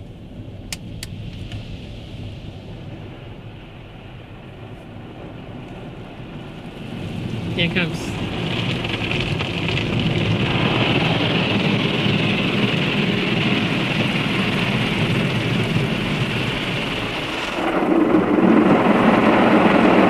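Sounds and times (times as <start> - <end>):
car wash spray drumming on car: 0.0 - 20.0.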